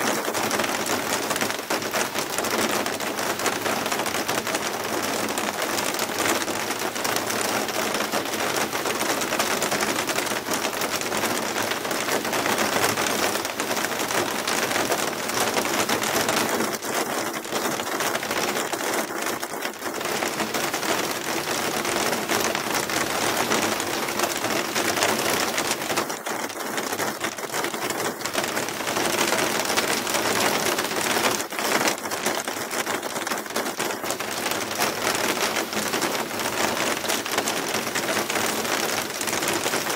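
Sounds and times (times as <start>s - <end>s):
hail and heavy rain falling: 0.0s - 39.9s.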